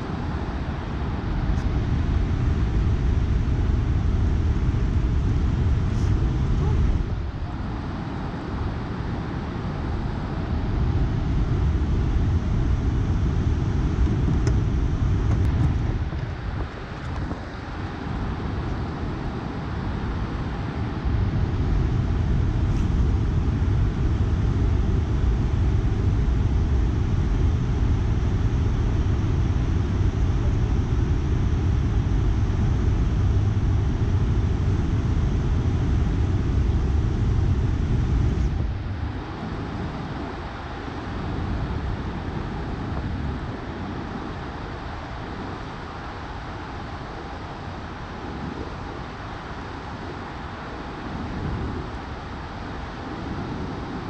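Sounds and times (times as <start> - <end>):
wind rumble: 0.0 - 54.0.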